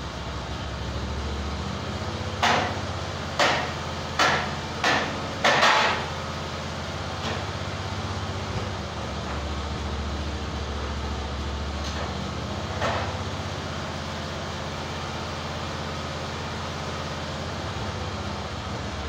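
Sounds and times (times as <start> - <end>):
sawmill engine idling: 0.0 - 19.0.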